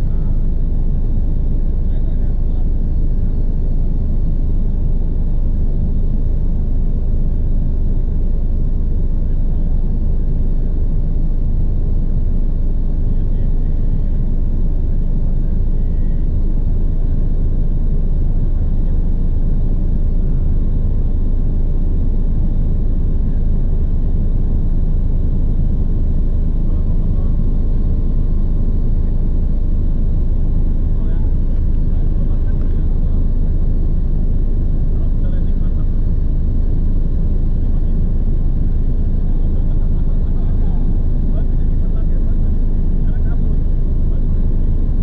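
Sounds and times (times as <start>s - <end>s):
faint turbine whine: 0.0s - 45.0s
helicopter engine and rotor rumble: 0.0s - 45.0s.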